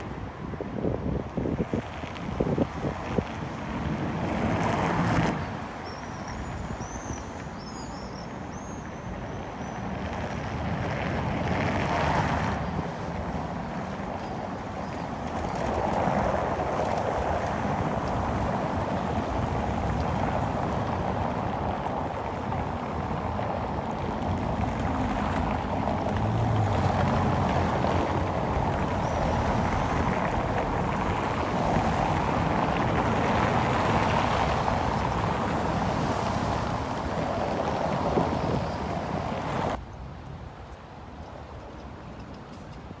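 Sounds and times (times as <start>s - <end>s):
city street rushing noise: 0.0s - 43.0s.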